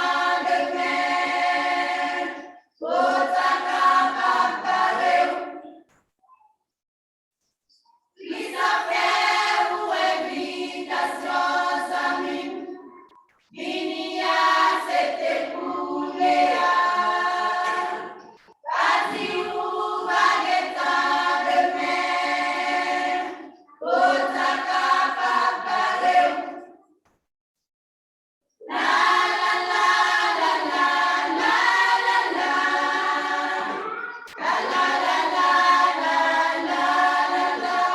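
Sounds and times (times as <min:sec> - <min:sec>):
choir singing: 0:00.0 - 0:05.9, 0:08.2 - 0:26.9, 0:28.6 - 0:37.9.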